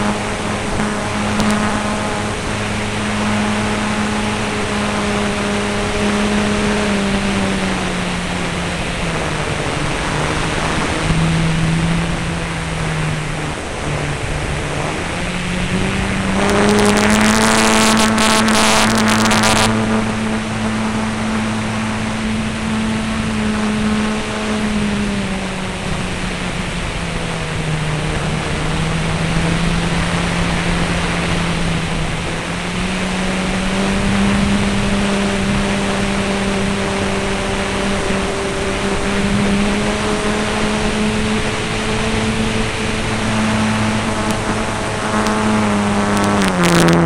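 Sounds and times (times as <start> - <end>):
model airplane engine running: 0.0 - 47.0.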